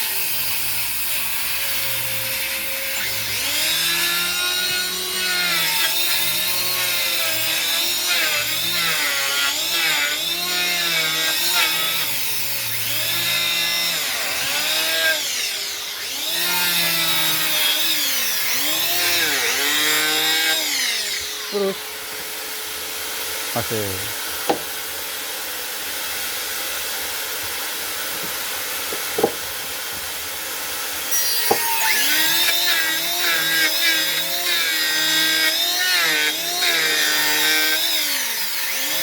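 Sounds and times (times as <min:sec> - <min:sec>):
electric hand planer shaving wood: 0:00.0 - 0:23.4, 0:24.4 - 0:39.0
rasping hiss of cutting: 0:00.0 - 0:25.0, 0:31.0 - 0:39.0.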